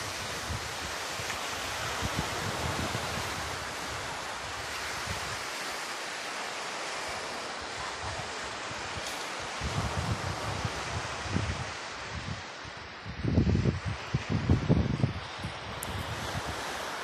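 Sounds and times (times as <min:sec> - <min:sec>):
wind buffeting microphone: 0:00.0 - 0:05.6, 0:07.6 - 0:17.0
waves washing up beach: 0:00.0 - 0:17.0.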